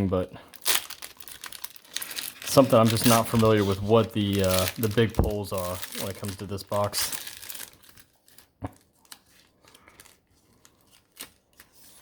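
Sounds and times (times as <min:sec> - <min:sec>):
wrapper crinkling and tearing: 0:00.0 - 0:12.0.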